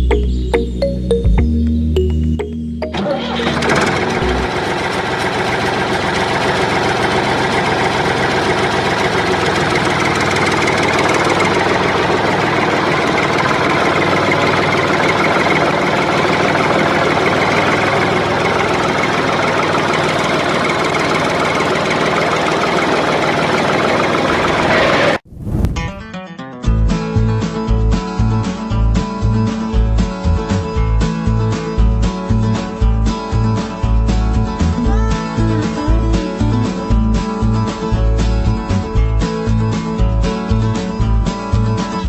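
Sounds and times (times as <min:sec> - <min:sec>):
small tractor engine running: 0:02.8 - 0:25.2, 0:28.4 - 0:42.0.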